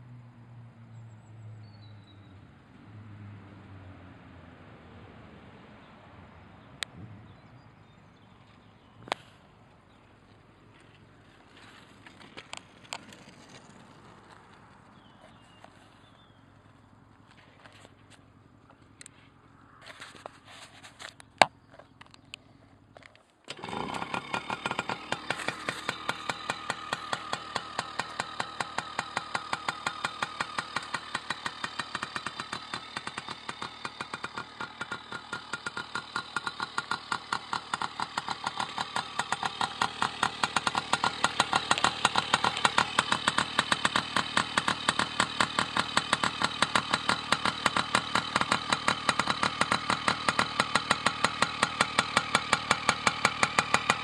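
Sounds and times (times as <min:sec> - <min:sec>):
mini bike engine idling: 0:08.1 - 0:19.1, 0:19.8 - 0:54.0.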